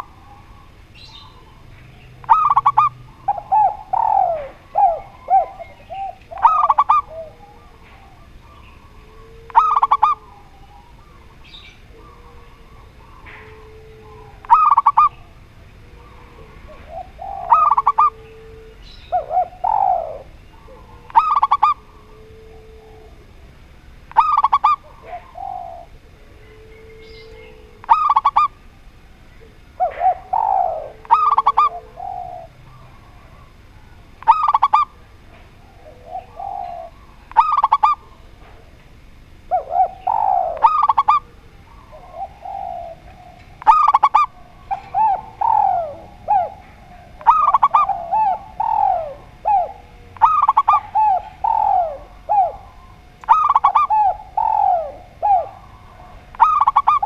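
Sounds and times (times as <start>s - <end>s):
dove sharp call: 0.0s - 57.0s
soft low dove coos: 0.0s - 57.0s.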